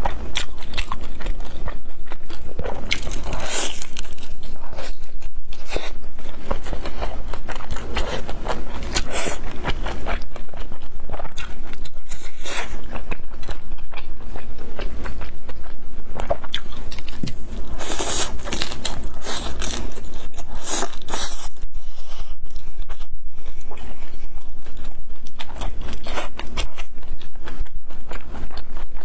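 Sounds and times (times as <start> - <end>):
chewing food: 0.0 - 29.0.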